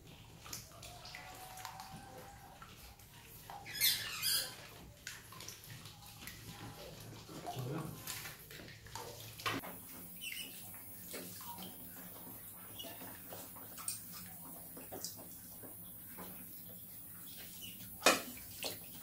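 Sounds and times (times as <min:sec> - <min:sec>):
rats splashing in water: 0:00.0 - 0:19.0.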